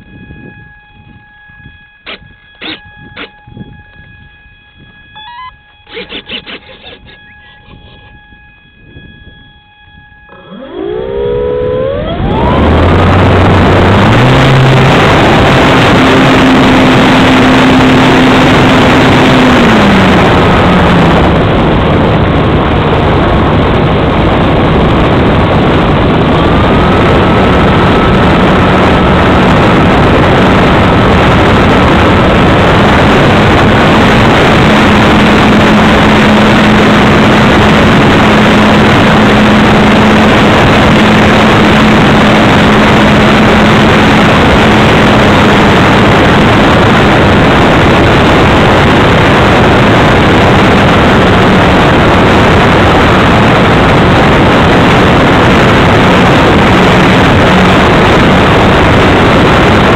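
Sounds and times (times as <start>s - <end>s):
model aircraft motor whine: 0.0s - 52.8s
wind rush: 0.0s - 59.9s.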